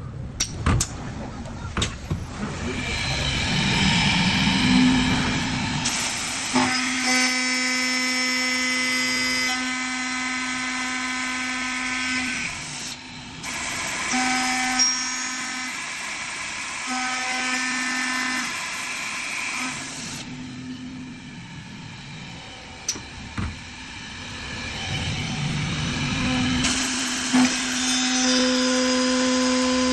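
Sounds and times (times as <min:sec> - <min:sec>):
drilling machine motor whine: 0:02.5 - 0:20.3, 0:23.6 - 0:29.9.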